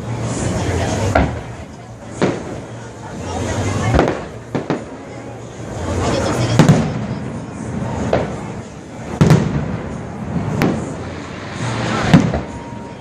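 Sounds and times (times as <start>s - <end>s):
fireworks bangs: 0.2s - 13.0s.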